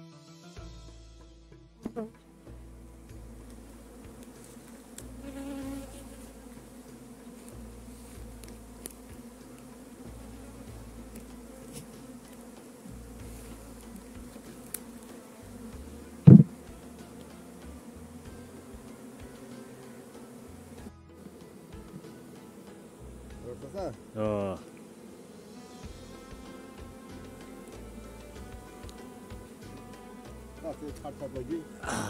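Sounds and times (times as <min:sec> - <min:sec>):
bee buzzing close by: 0:01.8 - 0:32.0
bees humming: 0:01.8 - 0:32.0.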